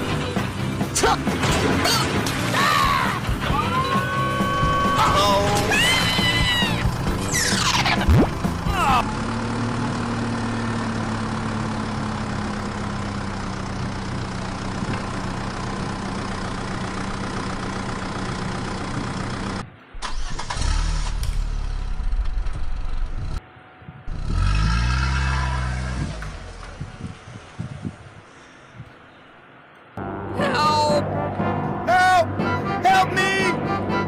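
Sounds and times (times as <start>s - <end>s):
vehicle engine idling and revving: 0.0s - 28.2s.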